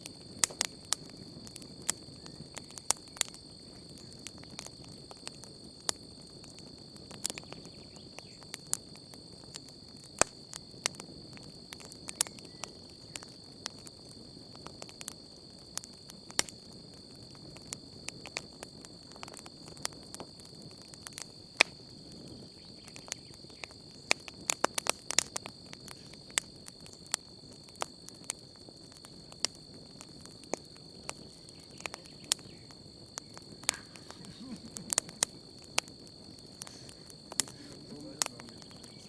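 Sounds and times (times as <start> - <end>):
campfire crackling and popping: 0.0 - 39.0
crickets trilling: 0.0 - 39.0.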